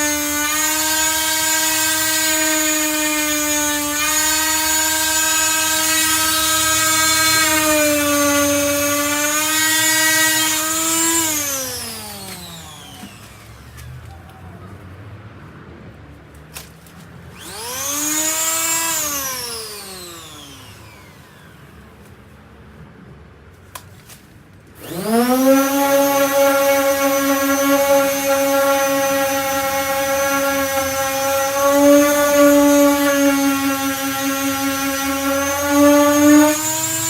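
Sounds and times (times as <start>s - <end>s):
electric sander motor whine: 0.0s - 13.9s, 17.3s - 21.9s, 24.8s - 37.0s.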